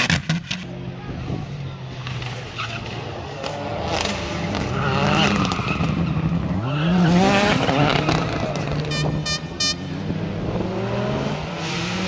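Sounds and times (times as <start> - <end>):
rally car engine revving: 0.0 - 12.0
tyre and road noise: 0.0 - 12.0.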